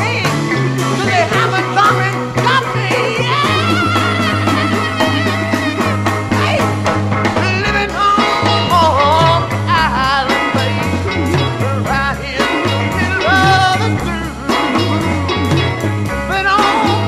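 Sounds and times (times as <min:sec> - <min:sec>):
psychedelic rock band playing: 0:00.0 - 0:17.0
steady drum beat: 0:00.0 - 0:17.0
stepping bass line: 0:00.0 - 0:17.0
wavering lead guitar lines: 0:00.0 - 0:17.0.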